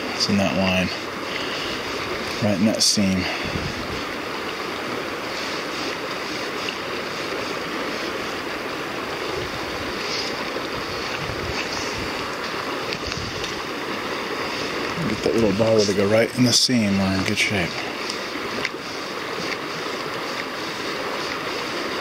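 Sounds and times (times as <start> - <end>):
river current rushing: 0.0 - 22.0.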